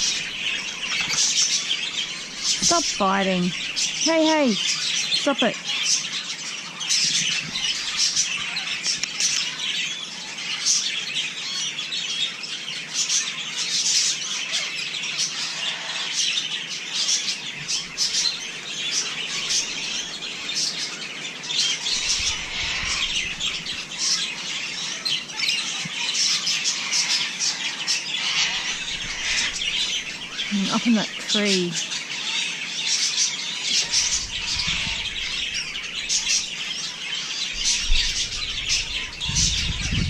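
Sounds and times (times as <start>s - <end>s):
parrots chattering and squawking: 0.0s - 40.0s.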